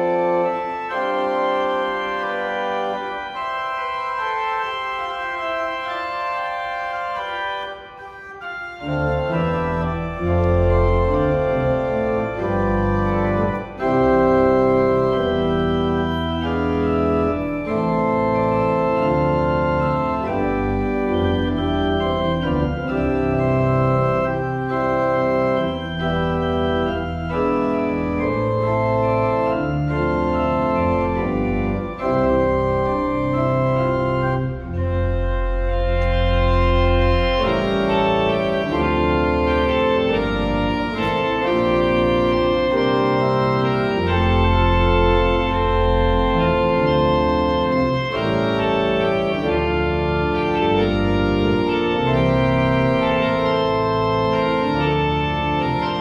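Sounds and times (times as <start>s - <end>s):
church organ chords: 0.0s - 56.0s
deep organ pedal bass: 0.0s - 56.0s.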